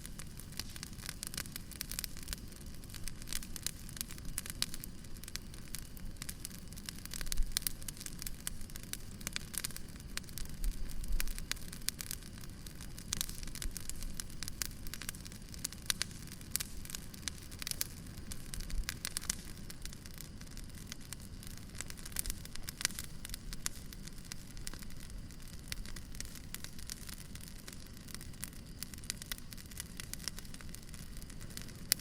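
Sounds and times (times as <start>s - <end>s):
low rumble of flame: 0.0s - 32.0s
wood fire crackling: 0.0s - 32.0s.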